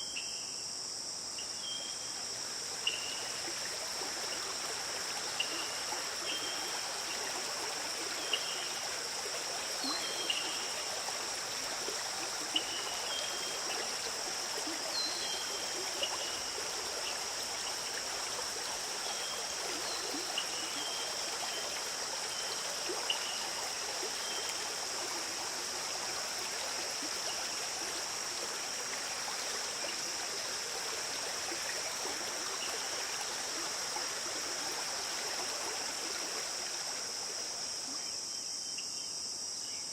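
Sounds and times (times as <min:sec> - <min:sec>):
stream flowing: 0:01.1 - 0:38.3.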